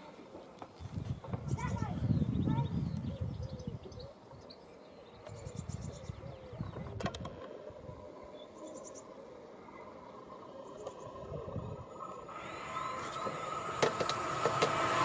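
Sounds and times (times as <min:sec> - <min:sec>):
birds chirping and trilling: 0:00.4 - 0:13.6.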